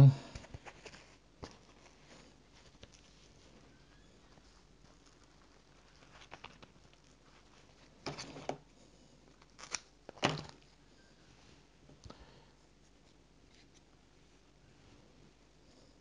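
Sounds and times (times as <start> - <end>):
rustling and crinkling material: 0.2 - 16.0.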